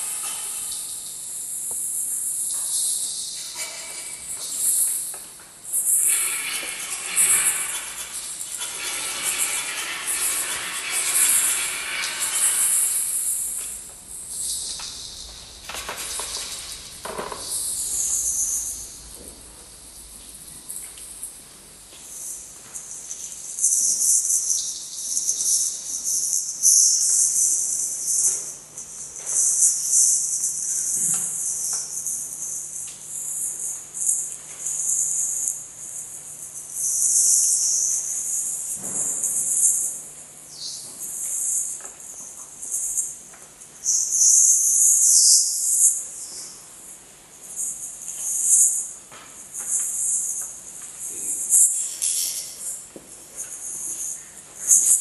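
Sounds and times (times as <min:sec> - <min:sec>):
high hissing rattle: 0:00.0 - 0:21.4, 0:22.0 - 0:43.2, 0:43.8 - 0:55.0.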